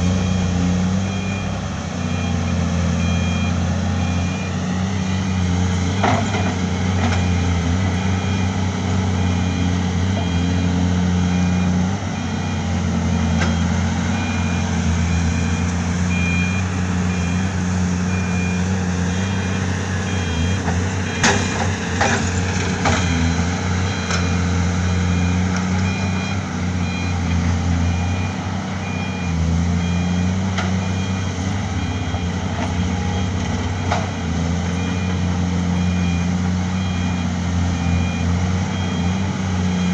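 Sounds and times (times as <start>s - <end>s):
heavy machinery diesel engines: 0.0s - 39.9s
back-up alarm beeping: 0.2s - 5.5s, 9.2s - 33.9s, 34.7s - 39.9s.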